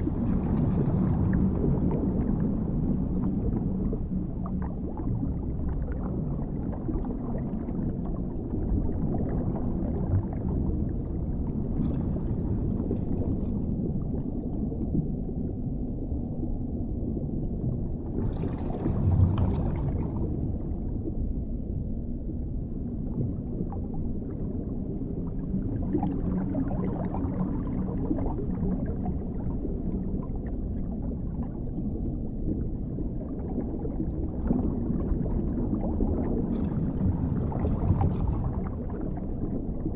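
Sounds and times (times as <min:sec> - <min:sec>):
underwater rumble and gurgle: 0:00.0 - 0:39.9.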